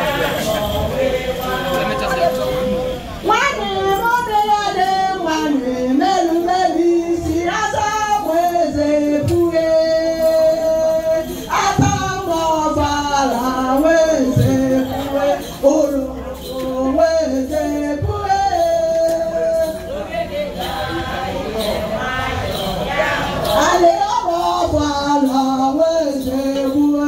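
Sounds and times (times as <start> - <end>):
women singing together: 0.0 - 27.0.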